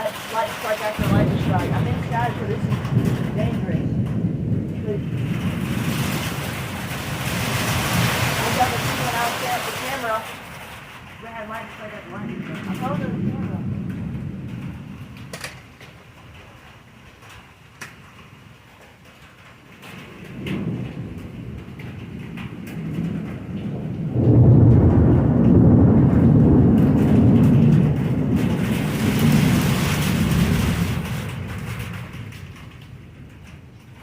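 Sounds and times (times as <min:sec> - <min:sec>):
thunder rumbling: 0:00.0 - 0:34.0.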